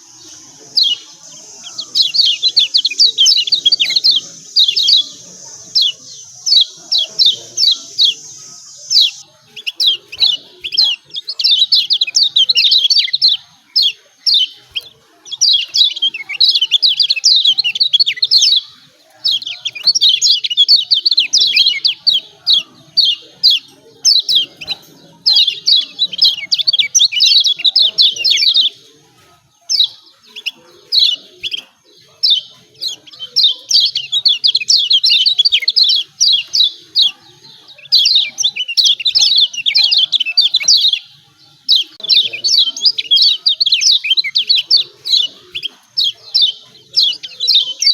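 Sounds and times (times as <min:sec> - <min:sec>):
bird rapid high chirping: 0:00.0 - 0:47.9.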